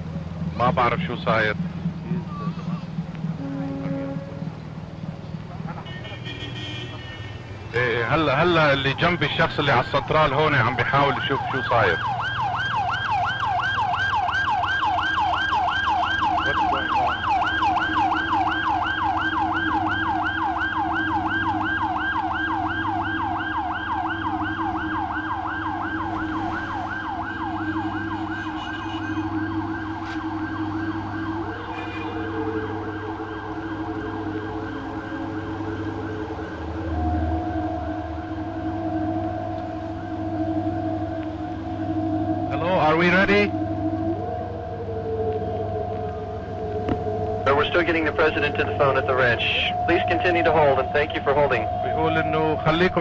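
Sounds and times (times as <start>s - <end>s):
steady low hum: 0.0s - 13.6s, 14.2s - 52.9s
electronic warbling siren tone: 0.0s - 53.0s
held steady tones: 0.0s - 53.0s.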